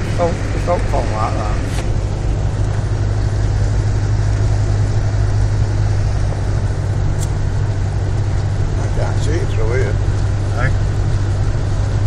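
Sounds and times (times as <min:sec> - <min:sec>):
engine drone: 0:00.0 - 0:12.0
road noise: 0:00.0 - 0:12.0.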